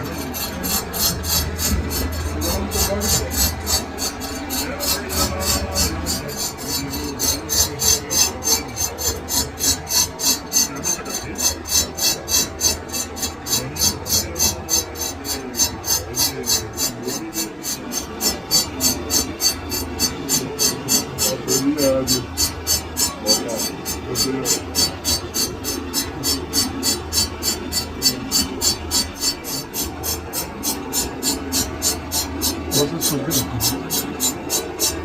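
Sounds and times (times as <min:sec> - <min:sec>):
hand file rasping on metal: 0:00.0 - 0:35.0.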